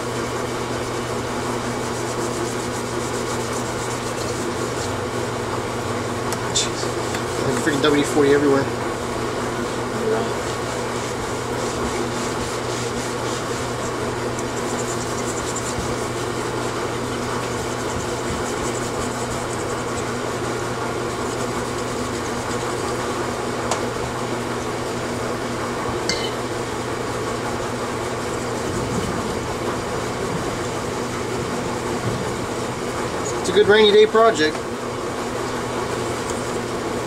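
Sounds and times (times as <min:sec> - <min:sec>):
fan-like hum and hiss: 0:00.0 - 0:37.0.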